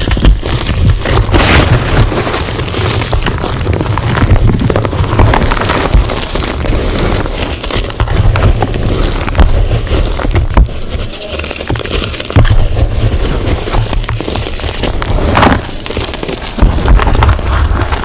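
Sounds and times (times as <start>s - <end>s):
chalk crunching and cracking: 0.0s - 18.0s.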